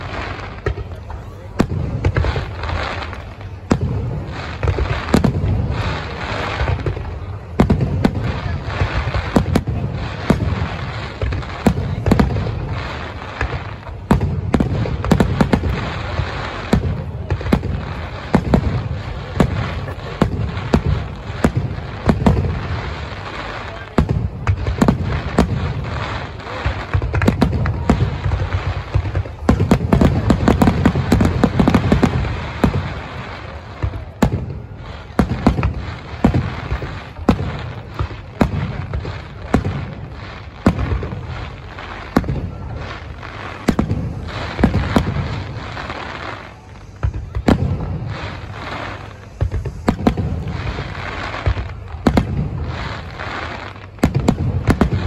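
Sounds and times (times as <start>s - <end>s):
firework bangs: 0.0s - 55.0s.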